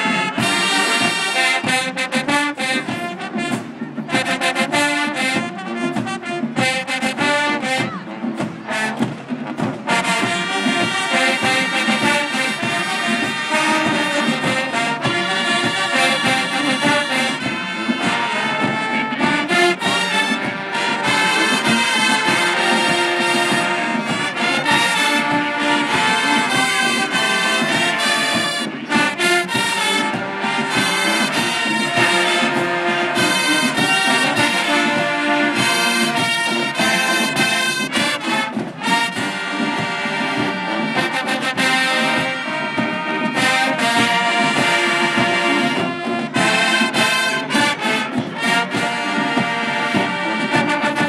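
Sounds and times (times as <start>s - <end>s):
drums keeping a beat: 0.0s - 51.0s
marching band brass: 0.0s - 51.0s.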